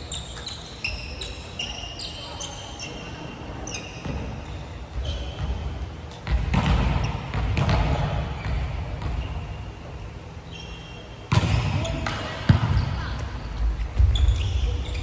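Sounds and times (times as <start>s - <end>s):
shoes squeaking on court: 0.0s - 15.0s.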